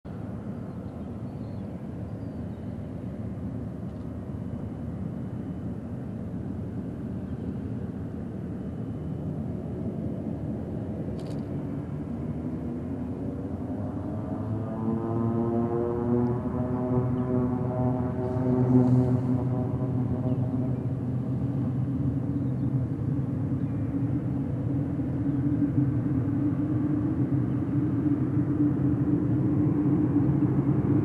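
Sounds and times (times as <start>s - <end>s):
distant turboprop engines rumbling: 0.1s - 31.0s
propeller hum rising in pitch: 0.1s - 31.0s.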